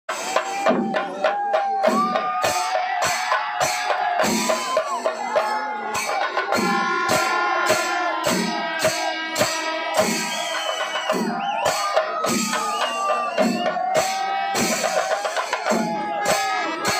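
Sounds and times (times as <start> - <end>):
percussion beat: 0.1 - 16.9.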